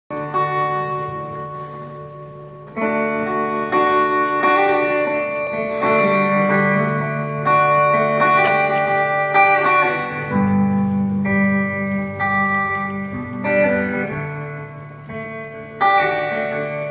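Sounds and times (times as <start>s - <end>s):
acoustic guitars playing: 0.1s - 16.9s.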